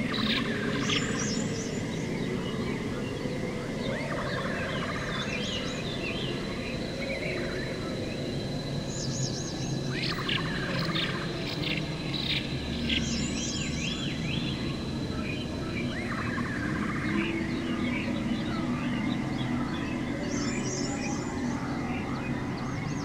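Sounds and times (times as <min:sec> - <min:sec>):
birds singing and chirping: 0:00.0 - 0:23.0.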